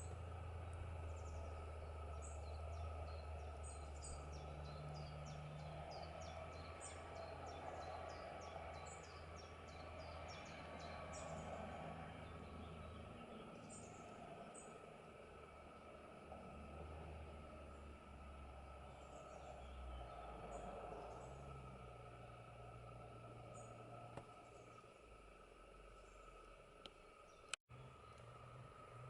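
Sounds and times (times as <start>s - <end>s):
small birds chirping: 0.0s - 16.4s, 17.2s - 28.8s.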